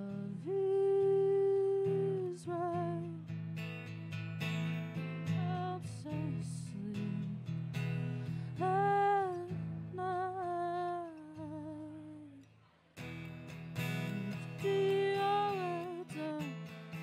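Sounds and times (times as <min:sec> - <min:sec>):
woman singing: 0:00.0 - 0:03.4, 0:05.2 - 0:12.6, 0:13.8 - 0:17.0
strummed acoustic guitar: 0:00.0 - 0:17.0.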